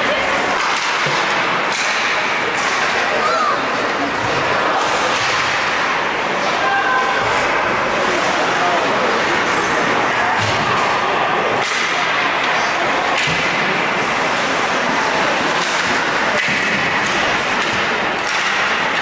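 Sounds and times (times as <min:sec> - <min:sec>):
arena noise: 0:00.0 - 0:19.0
skates scraping ice: 0:00.0 - 0:19.0
sticks slapping puck: 0:00.0 - 0:19.0.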